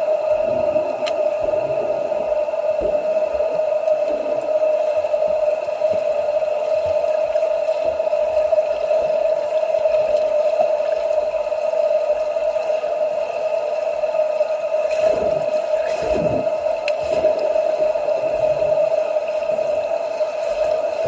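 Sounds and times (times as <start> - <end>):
even wash of noise: 0.0 - 21.0
steady hum: 0.0 - 21.0.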